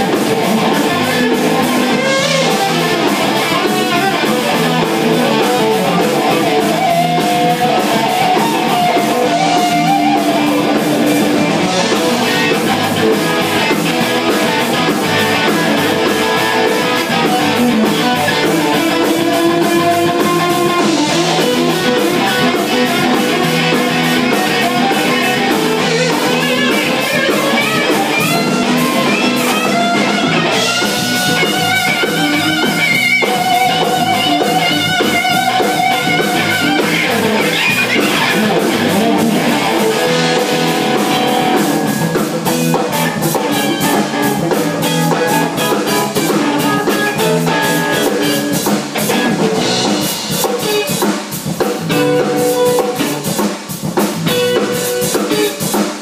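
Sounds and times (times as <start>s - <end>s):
drum kit: 0.0s - 56.0s
electric guitar playing: 0.0s - 56.0s.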